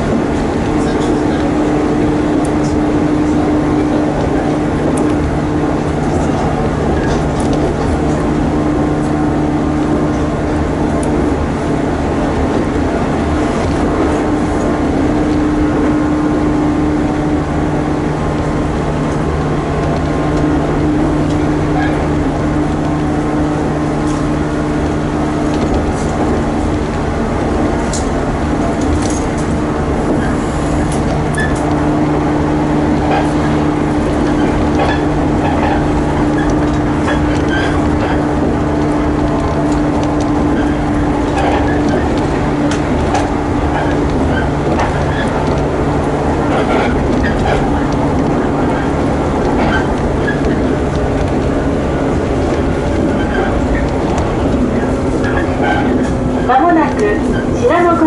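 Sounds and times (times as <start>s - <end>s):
low humming drone: 0.0s - 58.0s
train running rumble: 0.0s - 58.0s.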